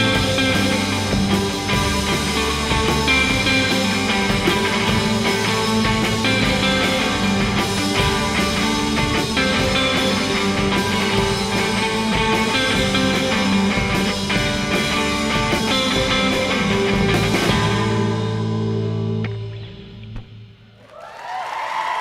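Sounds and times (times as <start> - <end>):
drum kit: 0.0 - 20.5
electric guitars: 0.0 - 20.7
electric bass: 0.0 - 20.8.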